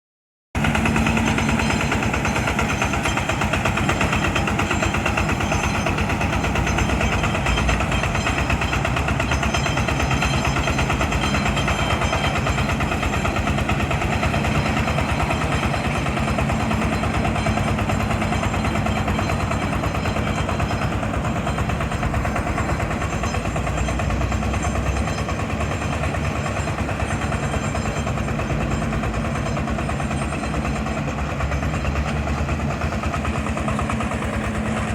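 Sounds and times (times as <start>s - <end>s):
combine harvester engine running: 0.6s - 34.9s.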